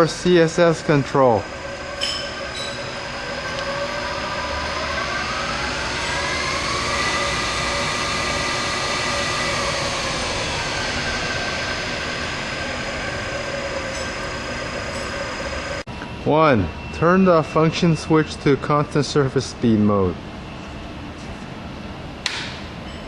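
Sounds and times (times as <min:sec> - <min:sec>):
lathe spindle whine: 0:00.0 - 0:21.4.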